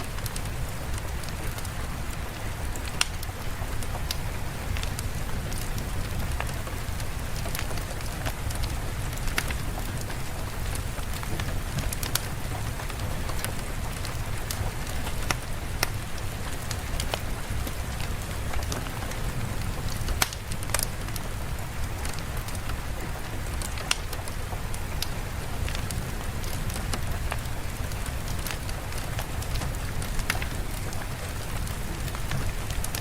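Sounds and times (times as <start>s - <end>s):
steady rain falling: 0.0s - 33.0s
sharp ticks and pops: 0.1s - 33.0s.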